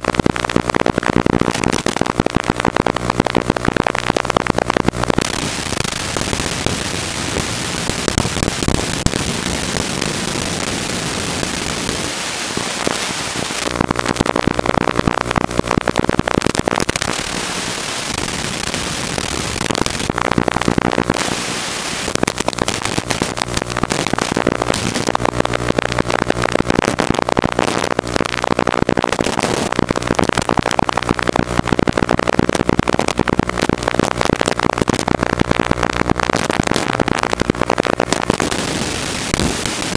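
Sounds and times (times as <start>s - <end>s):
buzzing tone: 0.0s - 39.9s
crackling static hiss: 0.0s - 39.9s.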